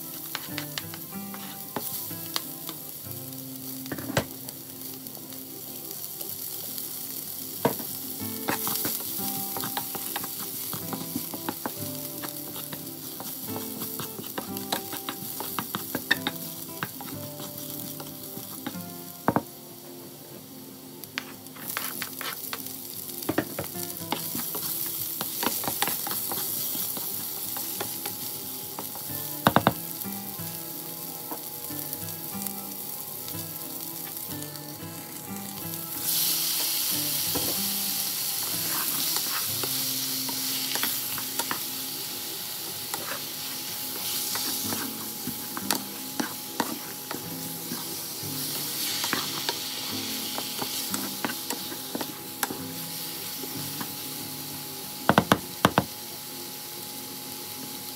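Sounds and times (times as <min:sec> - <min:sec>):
food sizzling in hot oil: 0:00.0 - 0:57.9.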